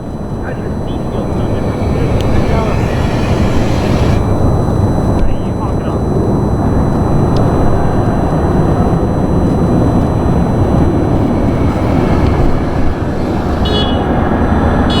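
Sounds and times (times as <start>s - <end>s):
vehicle rumble: 0.0s - 15.0s
wind noise: 0.0s - 15.0s.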